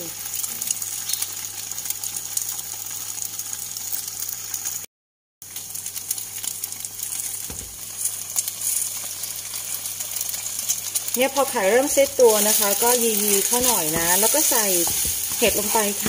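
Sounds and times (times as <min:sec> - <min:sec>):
eggs sizzling in a pan: 0:00.0 - 0:16.0.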